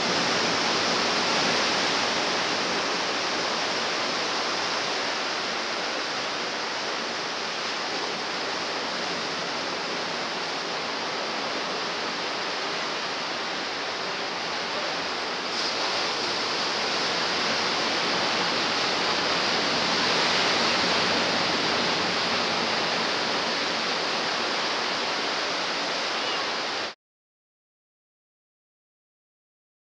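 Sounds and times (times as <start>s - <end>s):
ocean surf breaking on shore: 0.0s - 27.0s.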